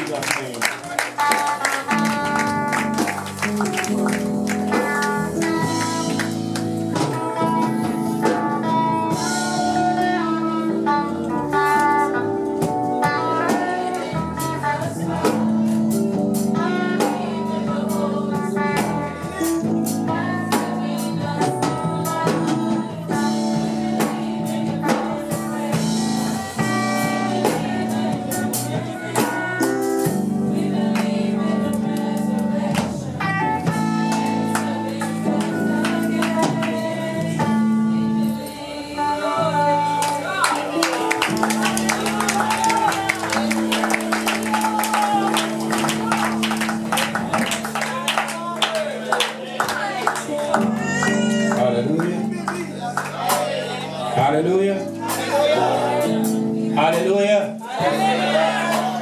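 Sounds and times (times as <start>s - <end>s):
bass guitar: 0.0s - 59.0s
drums: 0.0s - 59.0s
guitar: 0.0s - 59.0s
people singing: 0.0s - 59.0s.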